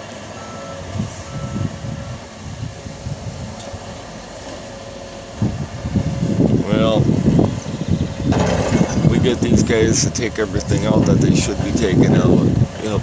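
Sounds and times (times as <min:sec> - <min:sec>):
heavy machinery engine rumble: 0:00.0 - 0:13.0.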